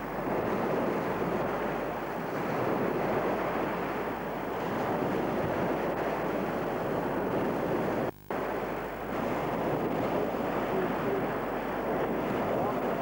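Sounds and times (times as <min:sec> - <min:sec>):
small waves breaking on shore: 0:00.0 - 0:13.0.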